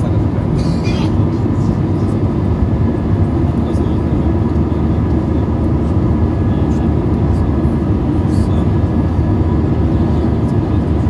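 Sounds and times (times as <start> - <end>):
airliner cabin engine noise: 0.0 - 11.0.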